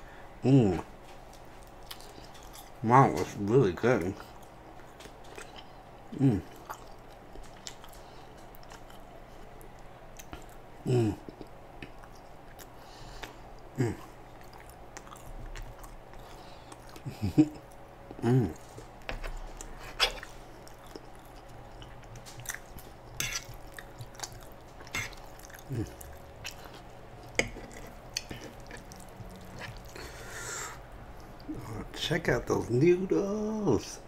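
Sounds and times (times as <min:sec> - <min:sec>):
man chewing food: 0:00.0 - 0:31.8.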